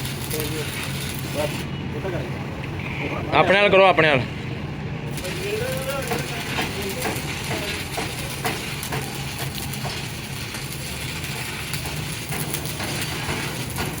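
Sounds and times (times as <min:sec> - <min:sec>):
machinery low hum: 0:00.9 - 0:12.6.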